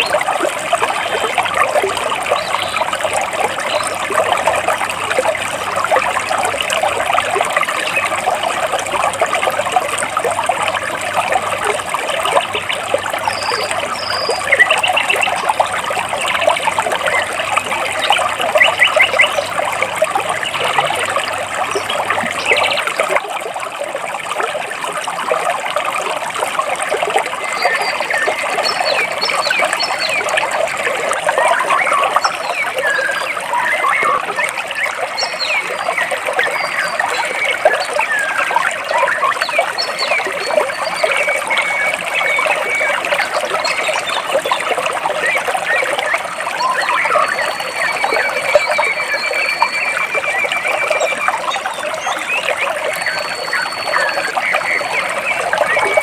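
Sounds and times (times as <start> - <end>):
water babbling over rocks: 0.0 - 56.0.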